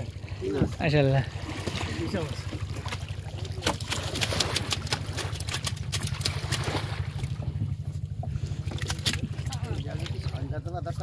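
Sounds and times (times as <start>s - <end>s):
boat engine throbbing: 0.0s - 11.0s
water splashing: 0.0s - 11.0s.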